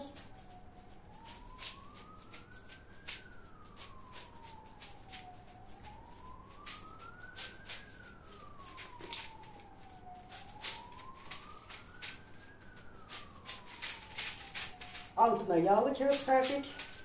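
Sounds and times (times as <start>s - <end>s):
siren wailing: 0.0s - 17.0s.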